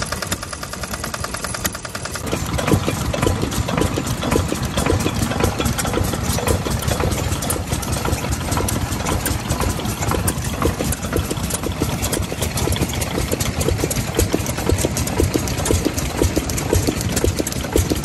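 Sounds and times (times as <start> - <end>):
diesel engine idling with knocking beat: 0.0 - 18.0.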